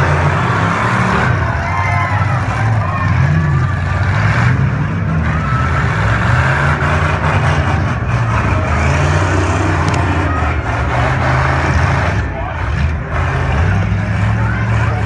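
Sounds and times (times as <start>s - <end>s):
car engines revving loudly: 0.0s - 15.0s.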